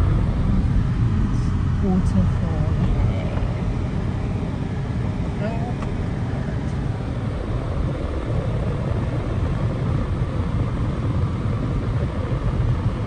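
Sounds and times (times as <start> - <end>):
car road rumble: 0.0 - 13.0.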